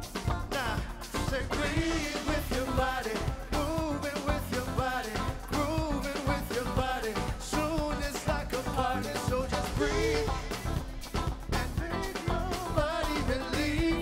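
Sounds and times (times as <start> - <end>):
live band playing: 0.0 - 14.0
steady drum beat: 0.0 - 14.0.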